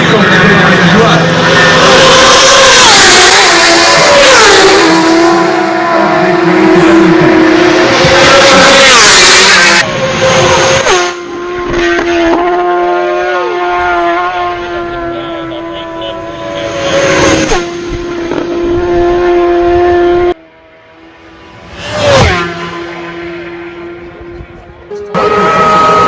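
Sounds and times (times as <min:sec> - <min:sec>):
racing motorcycle engines revving: 0:00.0 - 0:26.0.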